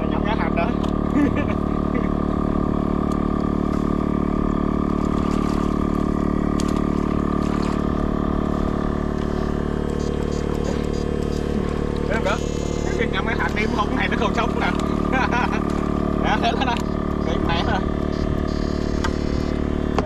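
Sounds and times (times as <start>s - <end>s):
motor droning: 0.0s - 20.0s.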